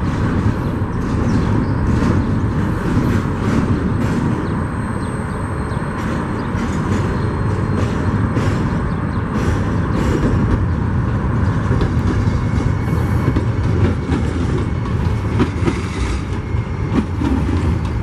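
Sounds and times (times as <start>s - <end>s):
freight train rumbling: 0.0s - 18.0s
wheels clacking over rails: 0.0s - 18.0s.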